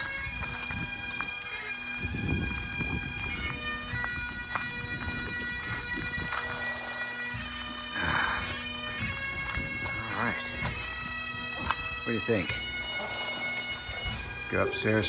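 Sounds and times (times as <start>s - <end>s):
bagpipes playing: 0.0s - 15.0s.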